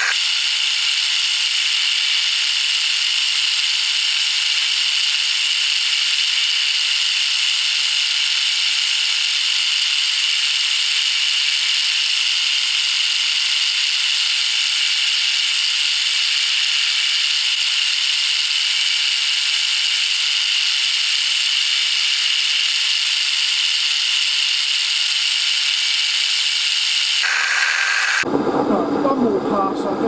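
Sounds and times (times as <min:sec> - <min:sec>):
machine tool cutting steel: 0:00.0 - 0:28.3.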